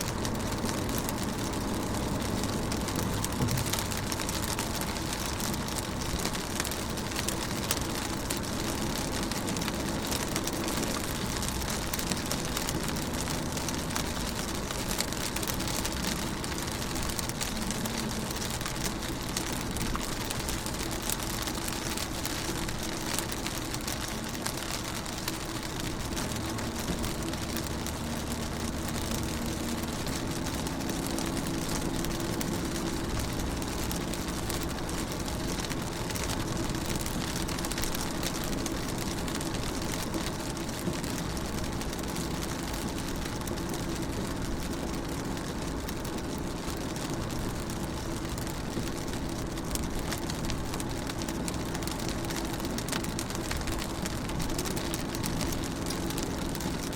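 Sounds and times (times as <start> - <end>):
rain pattering on window glass: 0.0 - 56.9.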